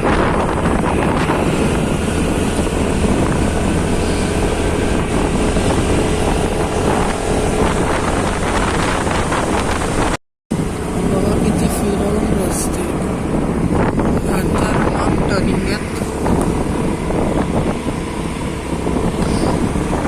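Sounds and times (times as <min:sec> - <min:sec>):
motorcycle engine: 0:00.0 - 0:20.0
road noise: 0:00.0 - 0:20.0
wind rushing over microphone: 0:00.0 - 0:20.0.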